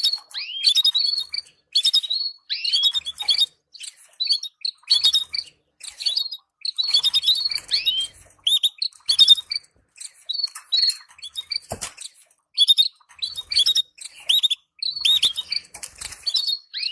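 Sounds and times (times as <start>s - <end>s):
canaries chirping: 0.0s - 16.9s.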